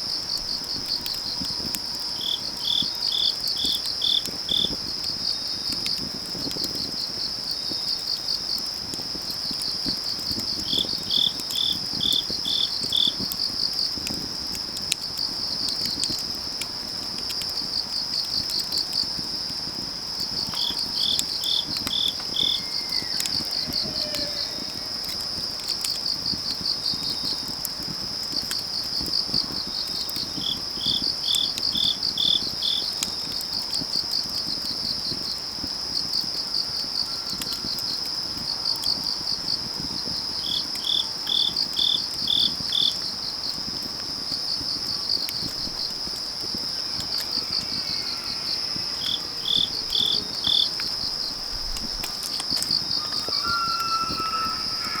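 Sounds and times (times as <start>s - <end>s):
crickets trilling: 0.0s - 55.0s
insect chirping: 0.0s - 55.0s
wood fire crackling: 0.0s - 55.0s.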